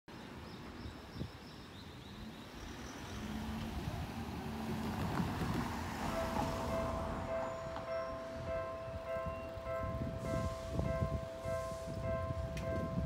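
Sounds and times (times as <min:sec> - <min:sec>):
street traffic: 0:00.1 - 0:13.0.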